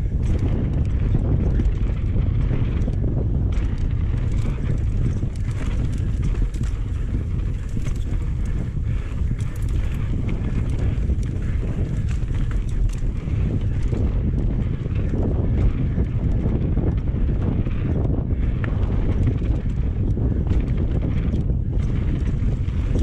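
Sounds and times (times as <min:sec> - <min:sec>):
bike clicks and rattles: 0:00.0 - 0:23.0
wind rushing over microphone: 0:00.0 - 0:23.0
tyres rolling on dirt: 0:00.2 - 0:23.0.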